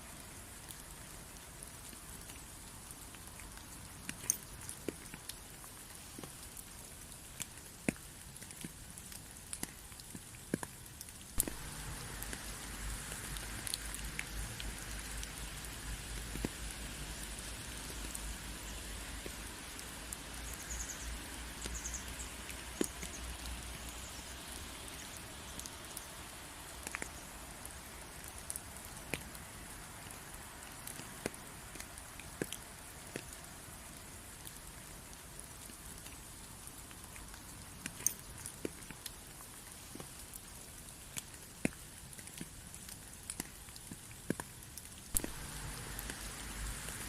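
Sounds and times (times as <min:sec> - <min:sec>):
rain falling: 0:00.0 - 0:47.0.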